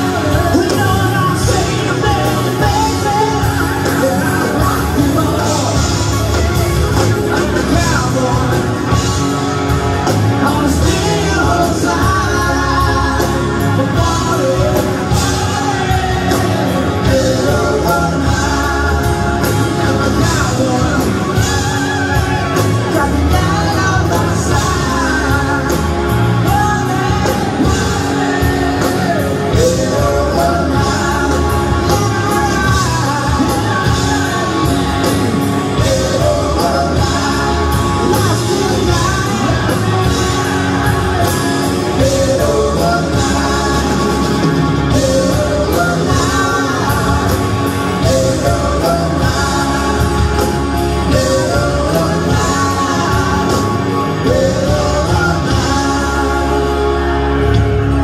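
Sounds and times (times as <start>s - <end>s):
guitars: 0.0s - 58.0s
male lead vocal: 0.0s - 58.0s
steady drum beat: 0.0s - 58.0s.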